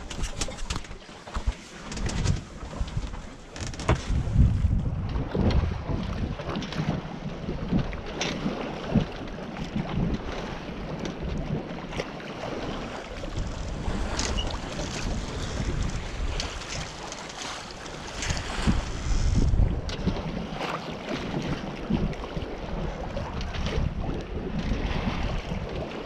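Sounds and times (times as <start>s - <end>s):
water sloshing along a hull: 0.0s - 26.0s
wind buffeting microphone: 0.0s - 26.0s.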